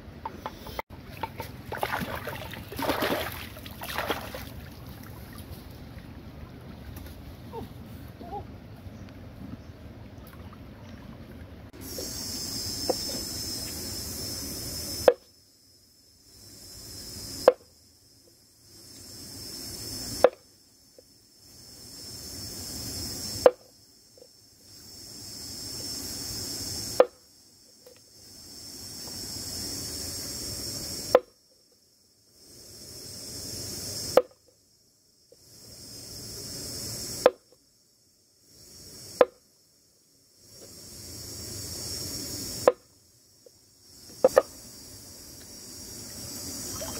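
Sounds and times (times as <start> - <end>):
high insect drone: 0.0 - 5.8, 11.7 - 46.9.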